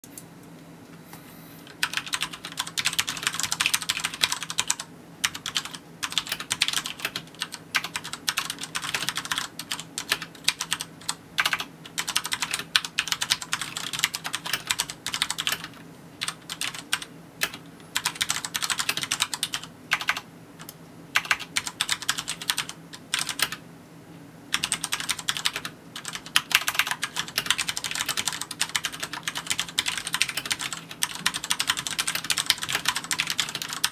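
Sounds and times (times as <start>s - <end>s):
fast typing on mechanical keyboard: 1.7s - 20.2s, 21.2s - 23.6s, 24.5s - 33.9s.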